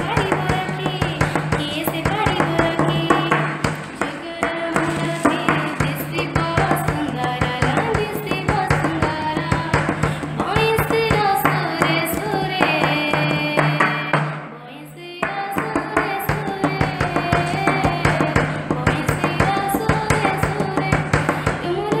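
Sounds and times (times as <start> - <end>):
quick drum beats: 0.0 - 14.5, 15.4 - 22.0.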